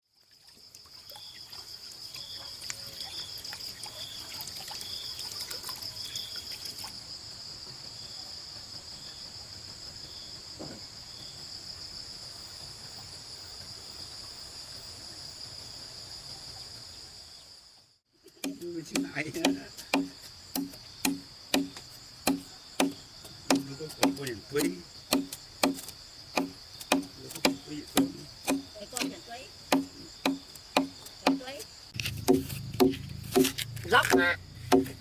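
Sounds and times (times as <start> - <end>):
short insect chirp: 0.1 - 35.0
insects buzzing: 0.4 - 35.0.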